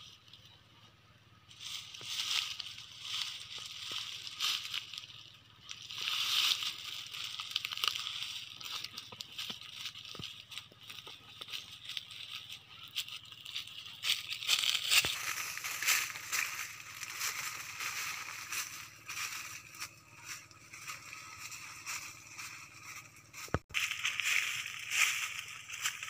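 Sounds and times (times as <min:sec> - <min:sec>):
leafy branches rustling: 0:01.4 - 0:26.0
footsteps crunching on dry leaves: 0:01.5 - 0:26.0.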